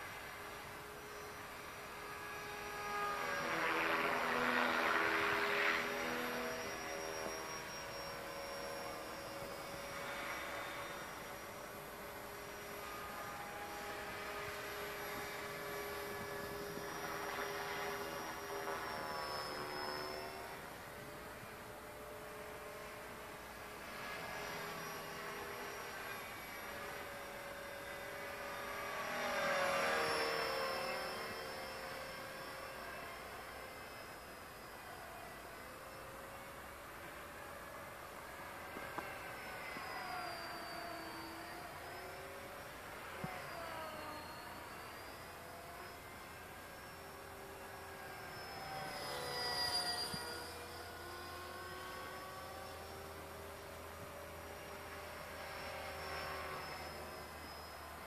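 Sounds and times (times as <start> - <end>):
rc helicopter rotor whine: 0.0 - 58.0.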